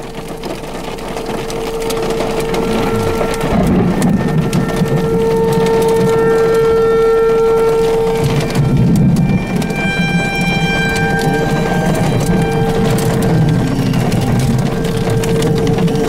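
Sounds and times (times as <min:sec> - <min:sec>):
rain on windshield: 0:00.0 - 0:16.0
tornado warning siren: 0:00.0 - 0:16.0
low rumble: 0:00.1 - 0:16.0.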